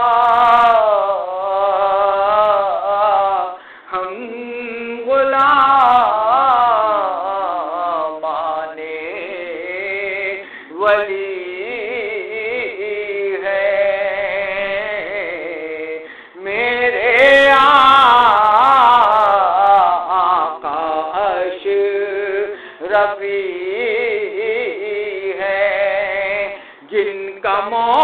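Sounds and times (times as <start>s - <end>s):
man singing devotional song: 0.0s - 28.0s.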